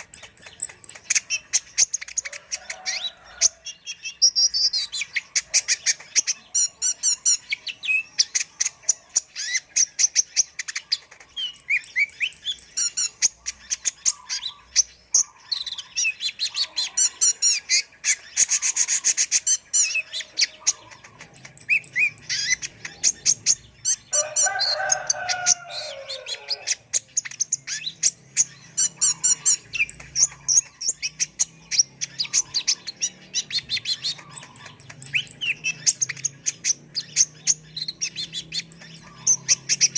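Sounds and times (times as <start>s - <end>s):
sunbird chirps and trills: 0.0s - 39.9s.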